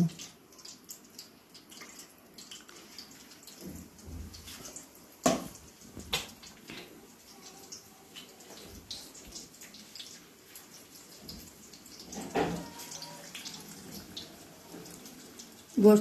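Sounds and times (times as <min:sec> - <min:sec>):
chicken sizzling in hot oil: 0:02.5 - 0:16.0.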